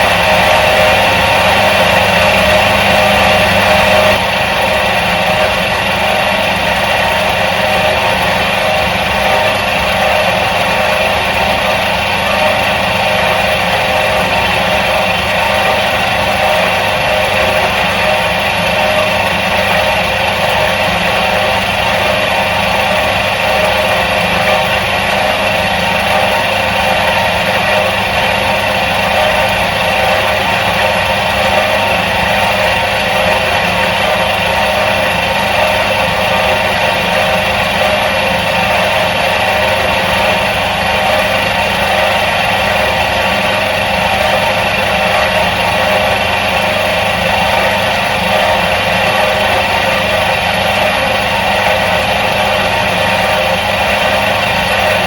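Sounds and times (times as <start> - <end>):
washing machine motor humming: 0.0 - 55.0.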